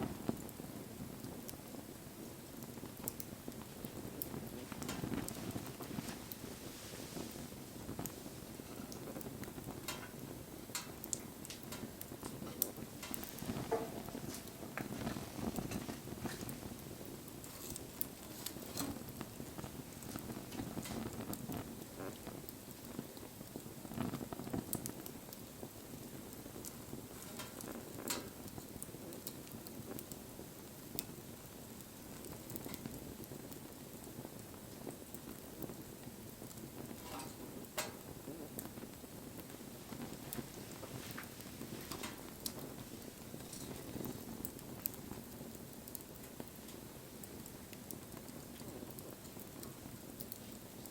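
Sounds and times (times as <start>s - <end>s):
low rush of flame: 0.0s - 50.9s
wood crackling and popping: 0.0s - 50.9s.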